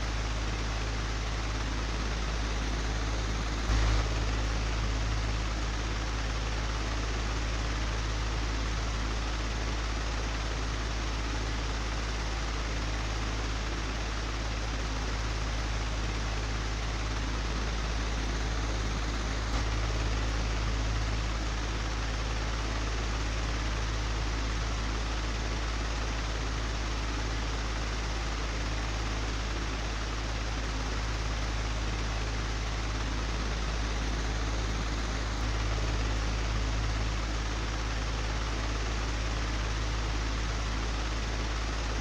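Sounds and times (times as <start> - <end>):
electric fan running: 0.0 - 42.0.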